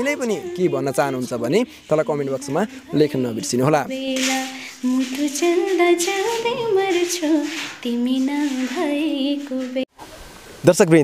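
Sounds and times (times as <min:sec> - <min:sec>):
woman singing unaccompanied: 0:00.0 - 0:09.9.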